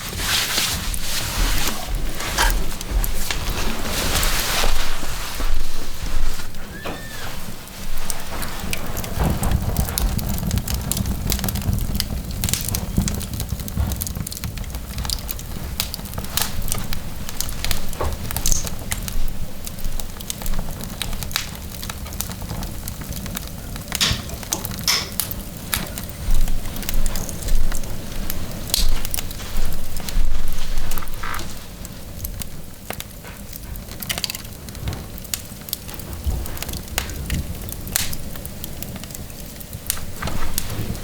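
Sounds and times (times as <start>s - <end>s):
fire burning with low rumble: 0.0s - 41.0s
logs crackling and popping: 0.0s - 41.0s.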